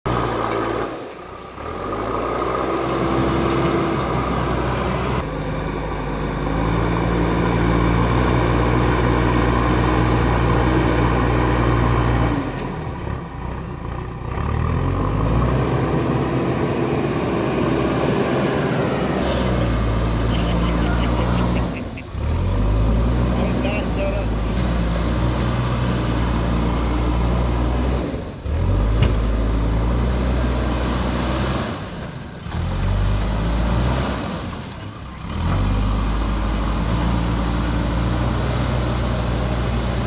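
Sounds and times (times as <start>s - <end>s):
diesel engine working under load: 0.1s - 40.0s.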